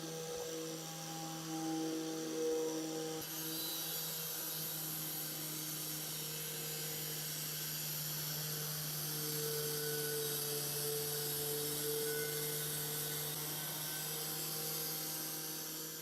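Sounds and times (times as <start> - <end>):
small electric motor humming: 0.0 - 16.0.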